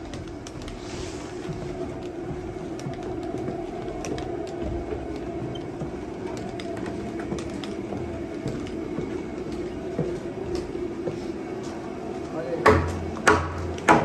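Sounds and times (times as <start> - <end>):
heater fan and burner hum: 0.0 - 14.0.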